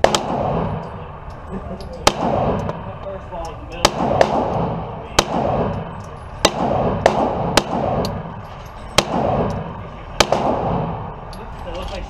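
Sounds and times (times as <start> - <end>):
gunshots with echoing ring: 0.0 - 1.4, 2.0 - 11.5.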